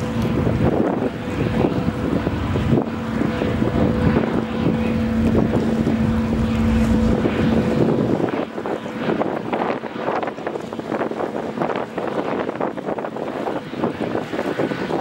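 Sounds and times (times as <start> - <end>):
ferry engine hum: 0.0 - 15.0
wind buffeting microphone: 0.0 - 15.0.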